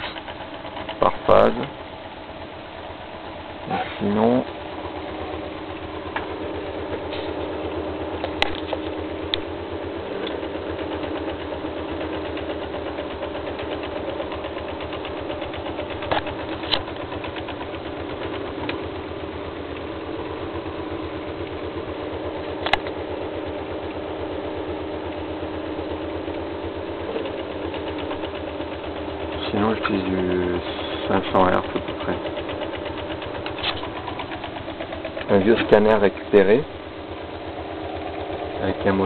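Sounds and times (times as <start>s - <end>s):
stepper motor humming: 0.0s - 39.0s.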